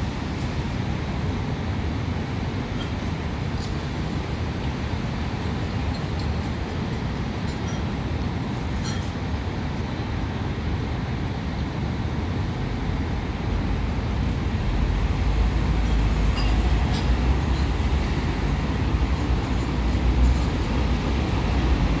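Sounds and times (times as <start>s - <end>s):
city street traffic rumble: 0.0s - 22.0s.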